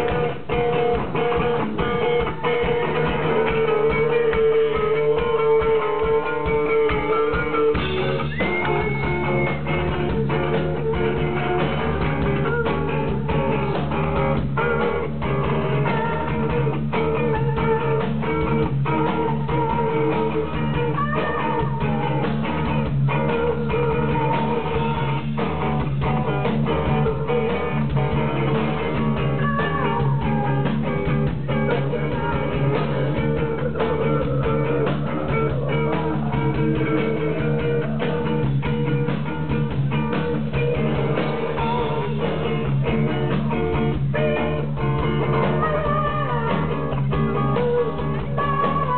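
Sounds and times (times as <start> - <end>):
bass guitar: 0.0 - 48.9
electric guitars: 0.0 - 48.9
steady drum beats: 0.0 - 48.9.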